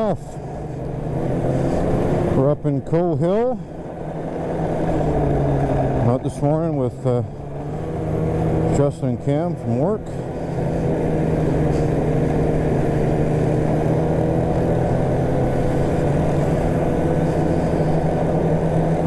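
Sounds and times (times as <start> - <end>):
snowmobile engine cruising: 0.0 - 19.0.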